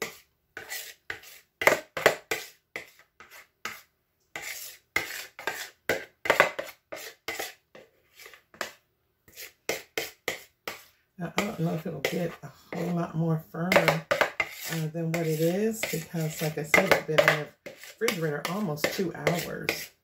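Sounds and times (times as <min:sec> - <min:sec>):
spoon scraping a container: 0:00.0 - 0:20.0.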